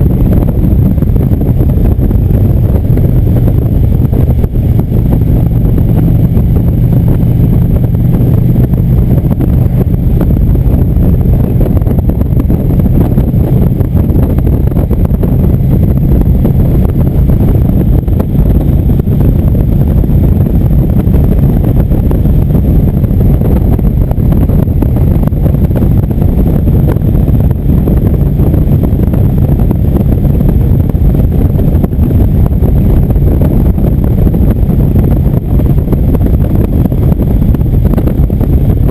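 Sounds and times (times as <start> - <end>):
motorcycle engine cruising: 0.0 - 38.9
wind on microphone: 0.0 - 38.9.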